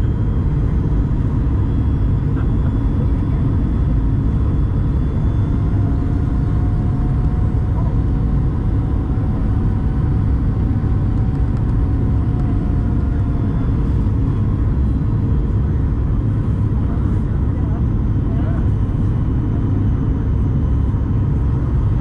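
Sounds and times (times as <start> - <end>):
airplane cabin engine rumble: 0.0 - 22.0
faint steady whine: 0.0 - 22.0.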